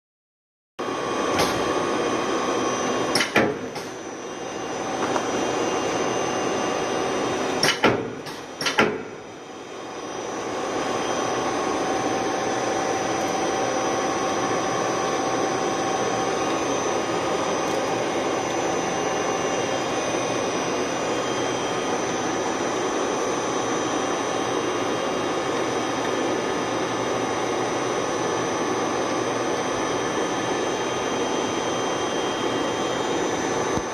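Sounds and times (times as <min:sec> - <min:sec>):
lathe whining and humming: 0:00.8 - 0:33.9.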